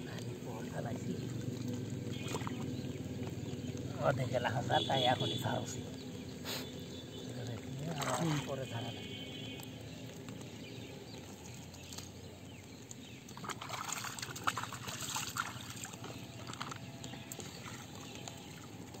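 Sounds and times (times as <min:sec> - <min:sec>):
shallow water splashing and trickling: 0:00.0 - 0:19.0.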